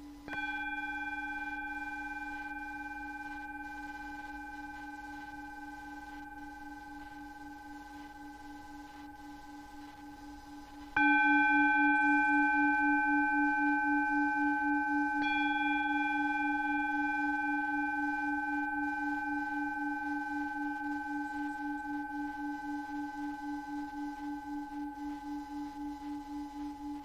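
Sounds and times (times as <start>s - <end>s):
singing bowl ringing: 0.0s - 27.0s.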